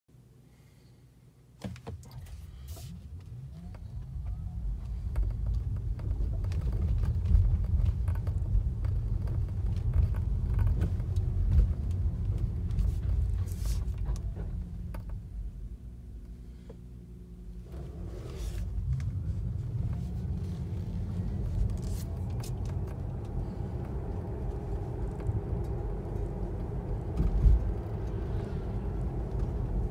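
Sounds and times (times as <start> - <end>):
road rumble: 1.8 - 29.9.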